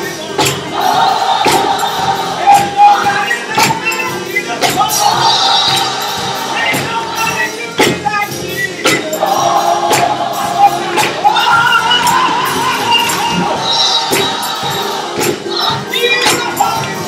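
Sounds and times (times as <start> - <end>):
gospel choir singing: 0.0 - 17.0
sharp percussive hits: 0.4 - 8.2, 8.8 - 17.0.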